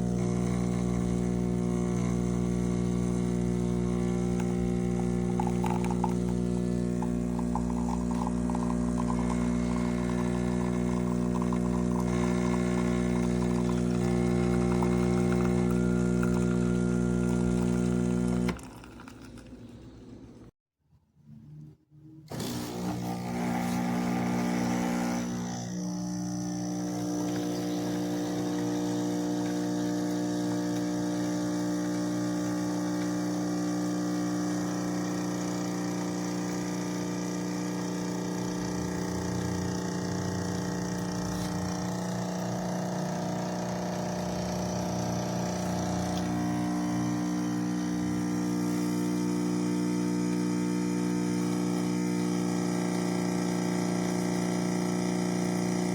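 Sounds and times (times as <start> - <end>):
espresso machine pump buzzing: 0.0 - 20.5, 22.3 - 55.9.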